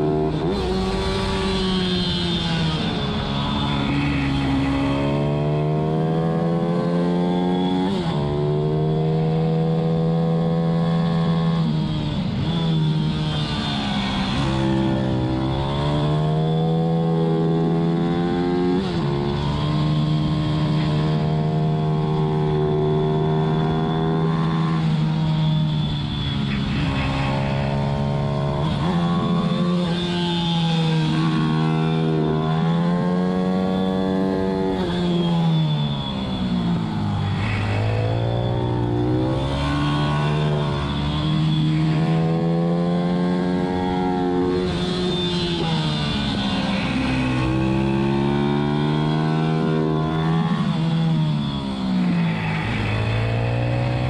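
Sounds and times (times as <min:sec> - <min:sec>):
motorbike engine revving: 0:00.0 - 0:54.0.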